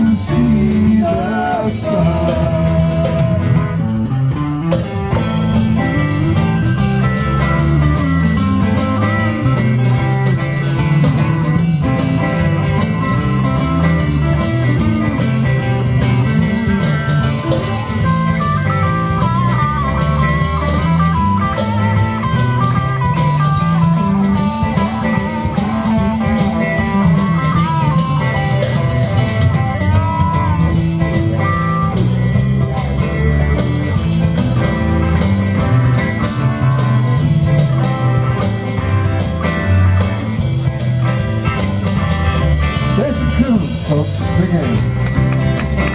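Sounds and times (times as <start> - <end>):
lead guitar line bending pitch: 0.0 - 45.9
live band playing instrumental: 0.0 - 45.9.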